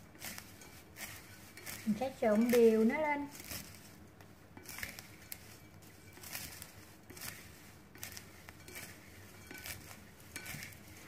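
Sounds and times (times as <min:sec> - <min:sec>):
food rustling in a bowl: 0:00.0 - 0:11.0.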